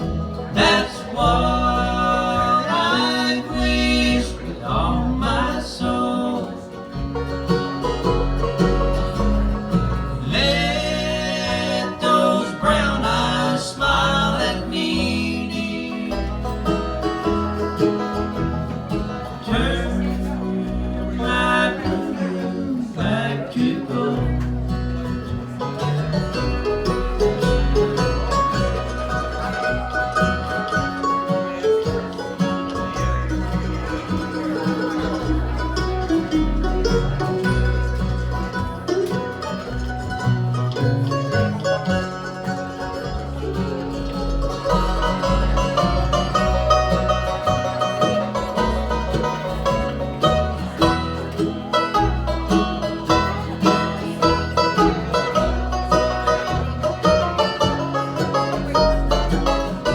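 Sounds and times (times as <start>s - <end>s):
bass line: 0.0s - 59.9s
plucked string instruments: 0.0s - 59.9s.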